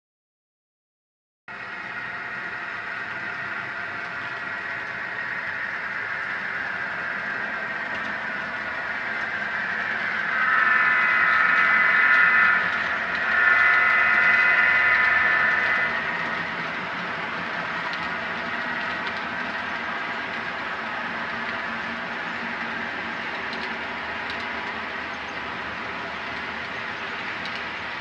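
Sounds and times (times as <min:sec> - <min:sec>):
model train running: 0:01.5 - 0:28.0.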